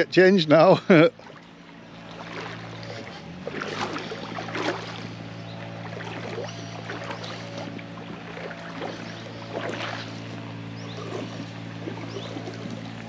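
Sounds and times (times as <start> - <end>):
steady low hum: 0.0 - 13.0
water splashing in a stream: 1.0 - 13.0.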